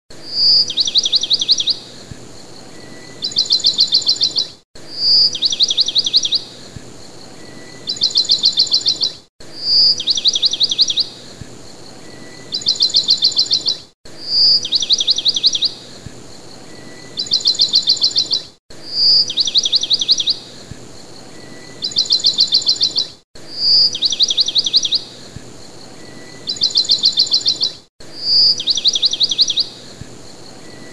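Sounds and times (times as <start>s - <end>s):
bird chirping and trilling: 0.2s - 30.9s.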